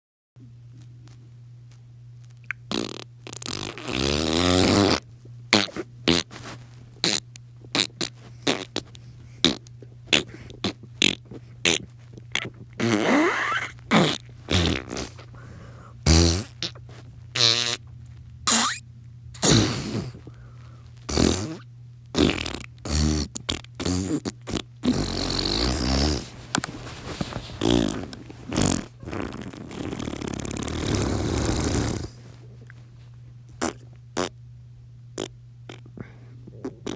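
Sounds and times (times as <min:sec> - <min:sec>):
fart noises: 0:02.5 - 0:18.8, 0:19.4 - 0:20.3, 0:21.1 - 0:32.8, 0:33.5 - 0:34.4, 0:35.2 - 0:36.9.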